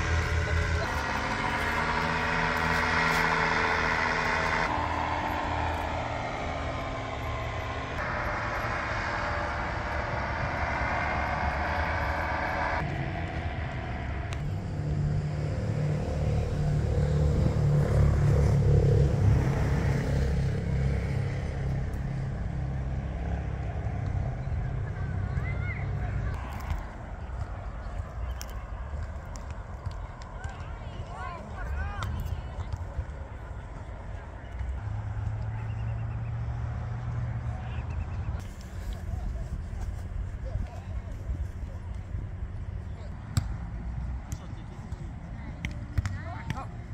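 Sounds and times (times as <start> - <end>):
engine hum: 0.0 - 46.9
outdoor background noise: 0.0 - 46.9.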